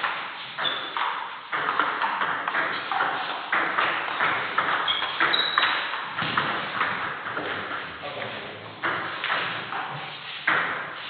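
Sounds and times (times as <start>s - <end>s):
table tennis ball hits: 0.0s - 8.0s, 8.7s - 11.0s.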